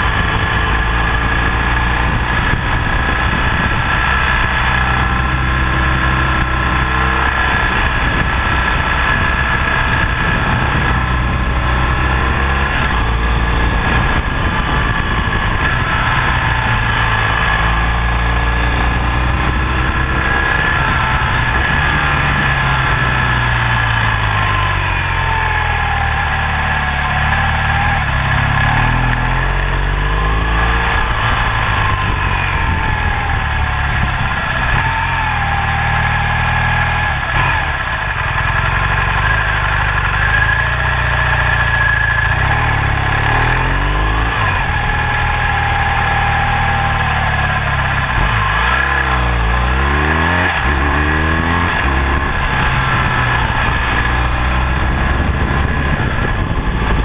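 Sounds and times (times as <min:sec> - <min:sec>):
constant rushing noise: 0:00.0 - 0:57.0
motorcycle engine revving: 0:00.0 - 0:57.0.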